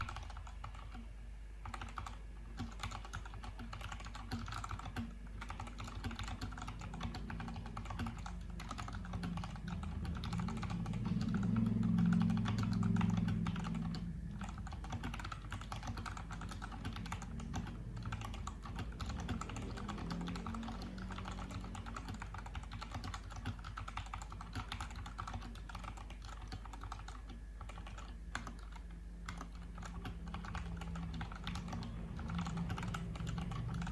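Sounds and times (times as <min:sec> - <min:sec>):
low hum: 0:05.3 - 0:33.9.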